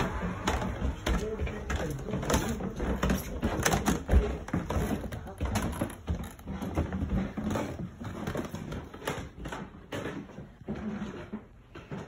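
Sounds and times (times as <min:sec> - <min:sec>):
footsteps on wooden stairs: 0:00.0 - 0:12.0.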